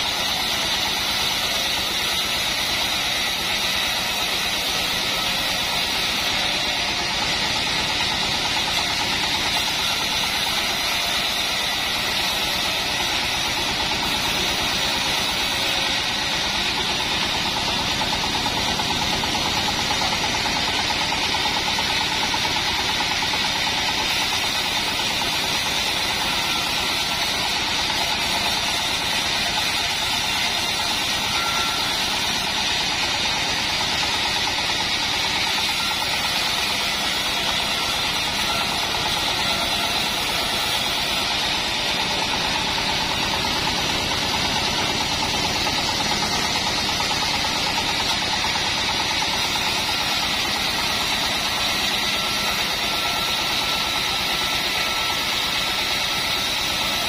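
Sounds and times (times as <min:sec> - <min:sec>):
band blade sawing timber: 0:00.0 - 0:57.0
band sawmill running: 0:00.0 - 0:57.0.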